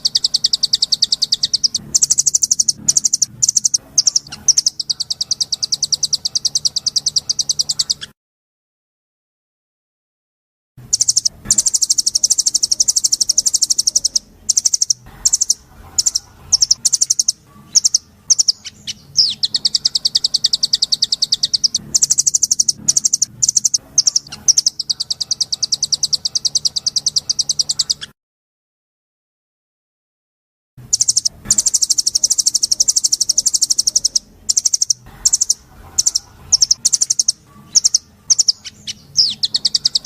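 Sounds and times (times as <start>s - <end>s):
songbird trilling: 0.0s - 8.1s, 10.9s - 28.1s, 30.9s - 40.0s.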